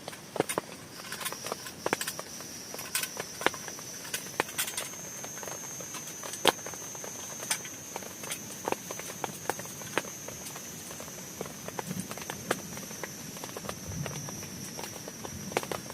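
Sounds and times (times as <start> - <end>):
raindrops tapping on plastic tarp: 0.0 - 15.9
steady high-pitched tone: 0.0 - 15.9.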